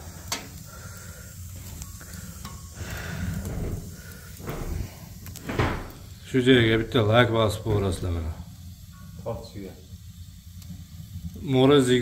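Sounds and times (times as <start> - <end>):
fire crackles: 0.0 - 12.0
wood fire hissing: 0.0 - 12.0.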